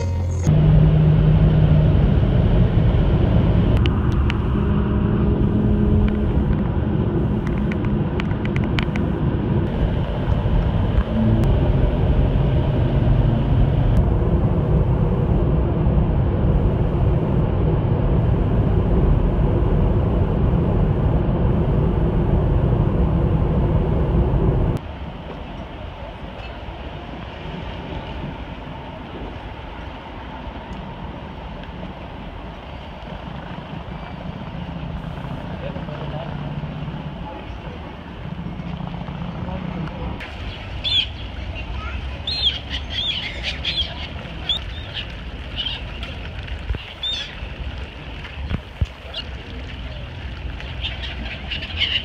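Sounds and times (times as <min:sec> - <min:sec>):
car interior road rumble: 0:00.0 - 0:52.0.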